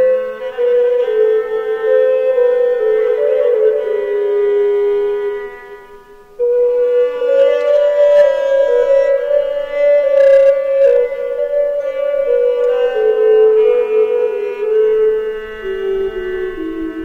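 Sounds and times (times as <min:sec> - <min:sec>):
woodwind playing held notes: 0:00.0 - 0:17.0.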